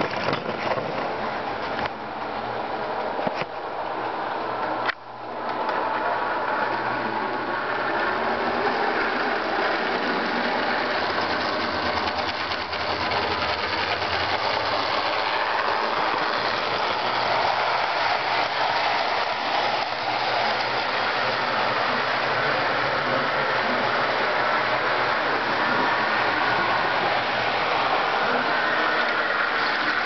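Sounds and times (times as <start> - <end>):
model train motor whirring: 5.8 - 30.0.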